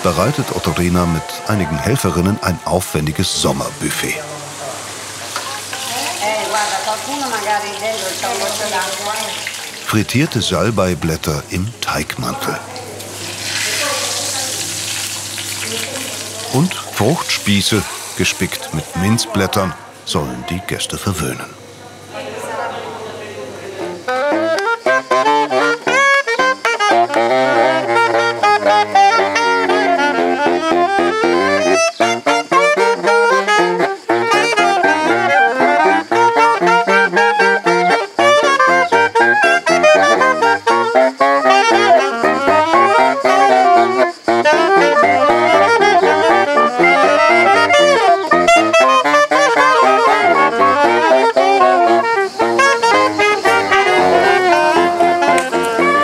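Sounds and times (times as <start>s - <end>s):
soprano saxophone jazz melody: 0.0s - 22.8s, 23.7s - 56.0s.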